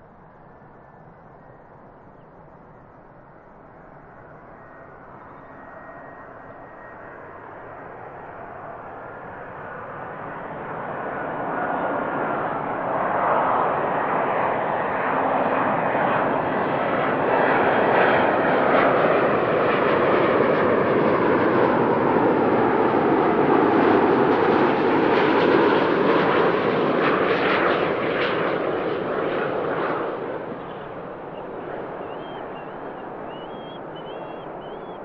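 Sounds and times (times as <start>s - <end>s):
jet engines passing: 0.0s - 35.0s.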